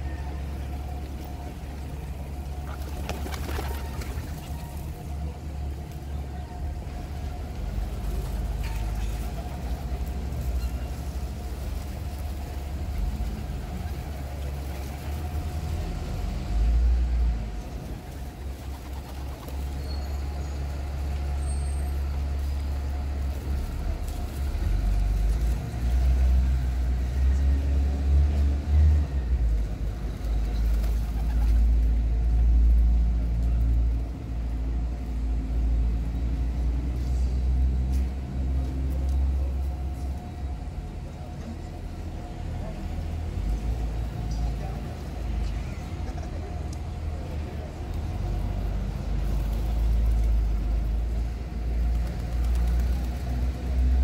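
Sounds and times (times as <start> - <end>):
low city rumble: 0.0 - 54.0.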